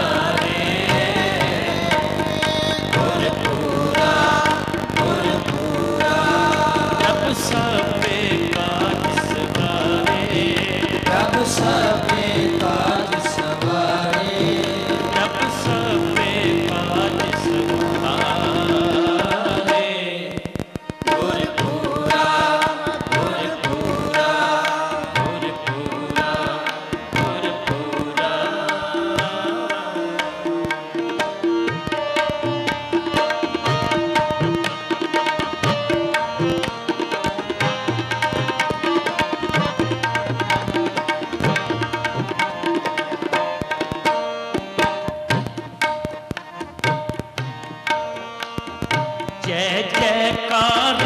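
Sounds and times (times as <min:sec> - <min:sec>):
harmonium chords: 0:00.0 - 0:51.0
tabla strokes: 0:00.0 - 0:51.0.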